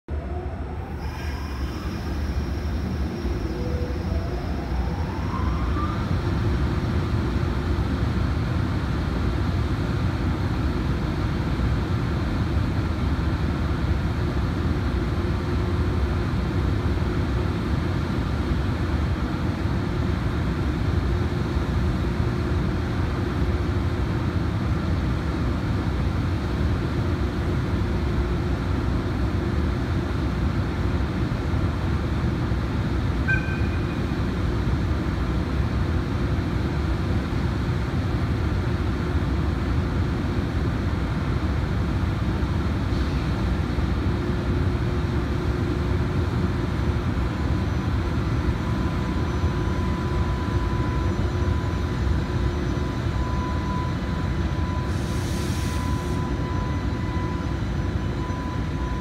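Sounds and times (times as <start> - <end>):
locomotive hum and rush: 0.1 - 59.0.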